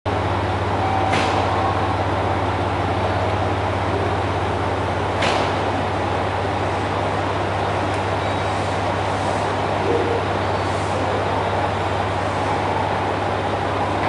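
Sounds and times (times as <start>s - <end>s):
train engine hum: 0.1s - 14.0s.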